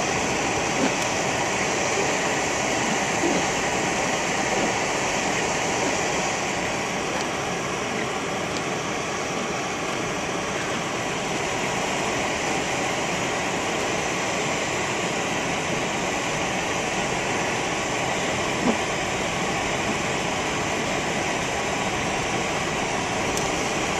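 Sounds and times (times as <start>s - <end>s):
blizzard wind blowing: 0.0s - 23.9s.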